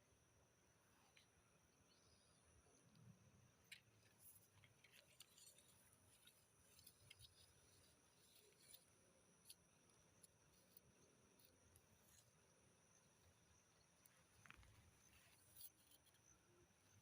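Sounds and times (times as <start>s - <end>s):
faint high insect drone: 0.0s - 17.0s.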